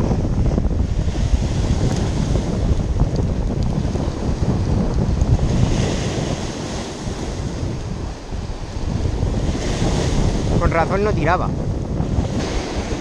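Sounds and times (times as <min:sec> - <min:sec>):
surf breaking over rocks: 0:00.0 - 0:13.0
wind buffeting microphone: 0:00.0 - 0:13.0.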